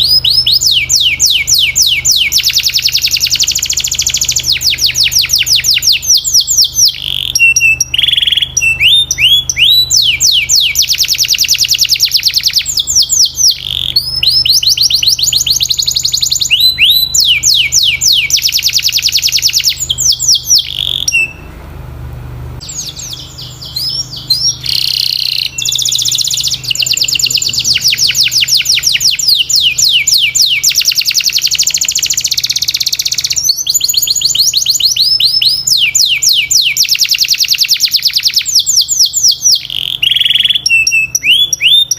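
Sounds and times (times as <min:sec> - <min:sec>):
canary singing: 0:00.0 - 0:21.6, 0:22.6 - 0:41.9
faint low hum: 0:00.0 - 0:41.9.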